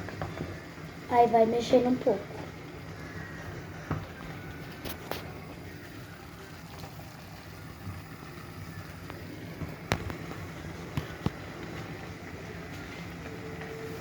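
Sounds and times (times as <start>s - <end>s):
cooking noise: 0.0s - 14.0s.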